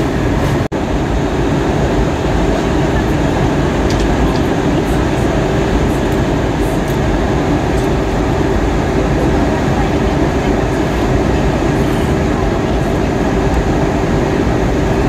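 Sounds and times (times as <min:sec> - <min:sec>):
airliner cabin airflow and engine drone: 0:00.0 - 0:15.0.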